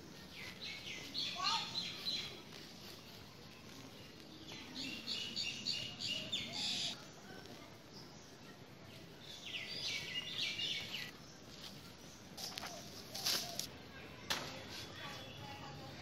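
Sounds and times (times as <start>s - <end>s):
small bird singing: 0.0s - 14.2s.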